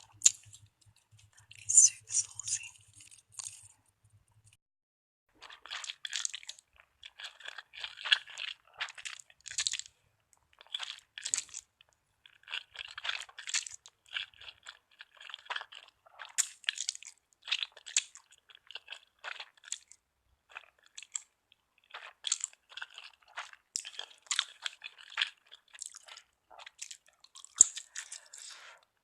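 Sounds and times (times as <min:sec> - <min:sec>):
person chewing noodles: 0:00.0 - 0:03.8, 0:05.4 - 0:29.0.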